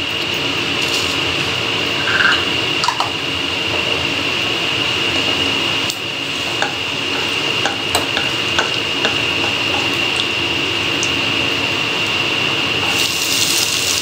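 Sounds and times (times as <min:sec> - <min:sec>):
seeds sizzling in hot oil: 0:00.0 - 0:02.4, 0:04.8 - 0:14.0
high-pitched whine: 0:00.0 - 0:14.0.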